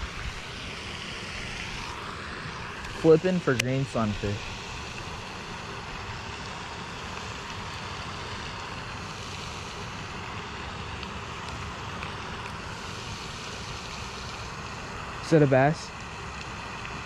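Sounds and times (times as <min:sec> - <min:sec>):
pond fountain splashing: 0:00.0 - 0:17.0.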